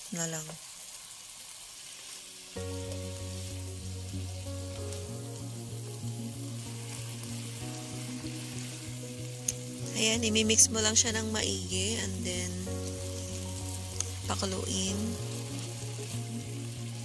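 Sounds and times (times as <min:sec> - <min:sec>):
food sizzling in oil: 0:00.0 - 0:17.0
soft background music: 0:02.2 - 0:17.0.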